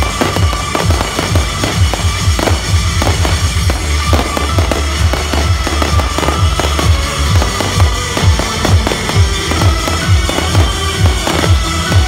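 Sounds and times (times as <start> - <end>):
fireworks bursting: 0.0 - 12.0
show music: 0.0 - 12.0.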